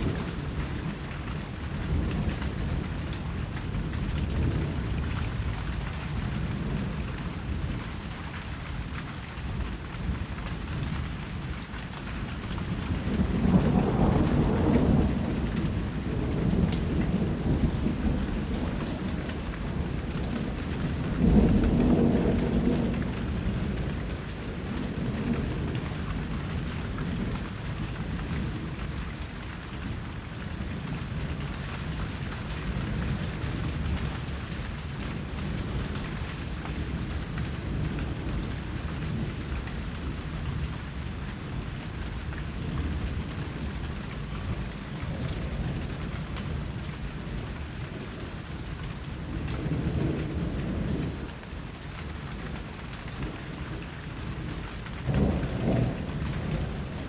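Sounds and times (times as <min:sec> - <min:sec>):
rolling thunder rumble: 0:00.0 - 0:57.0
steady rain: 0:00.0 - 0:57.0.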